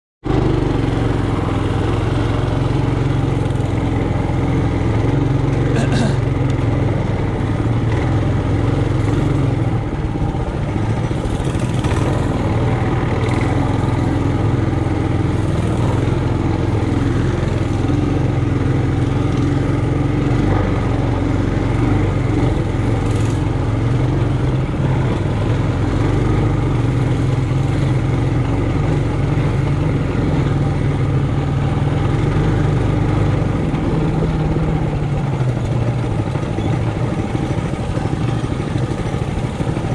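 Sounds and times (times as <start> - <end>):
mini bike engine running: 0.2 - 39.9.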